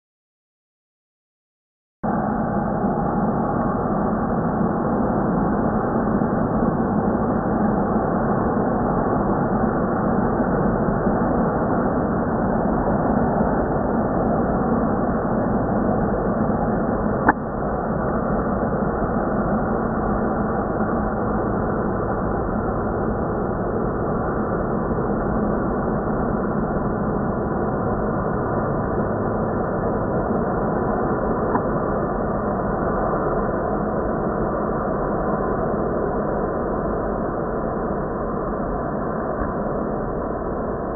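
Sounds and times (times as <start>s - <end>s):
jet engines droning: 2.0s - 40.9s.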